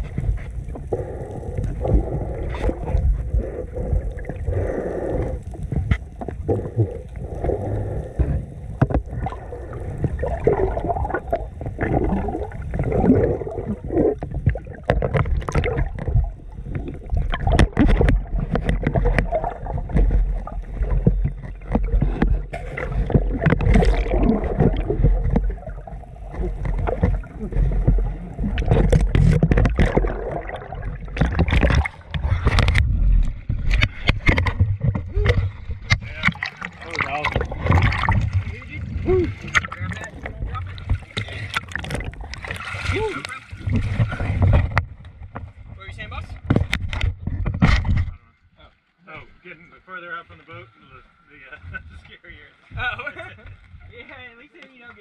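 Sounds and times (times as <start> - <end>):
deep underwater rumble: 0.0 - 48.5
underwater gurgling and sloshing: 0.0 - 55.0.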